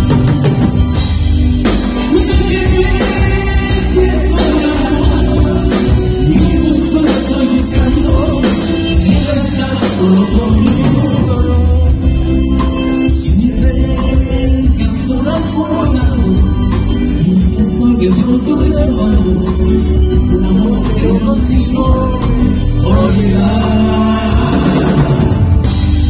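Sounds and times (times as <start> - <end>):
live band playing ballad: 0.0 - 26.0
man singing: 1.8 - 25.7.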